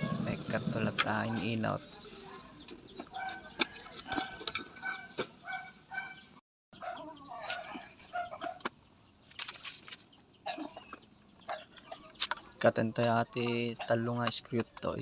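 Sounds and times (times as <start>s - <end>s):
chickens clucking: 0.0s - 9.1s, 10.0s - 15.0s.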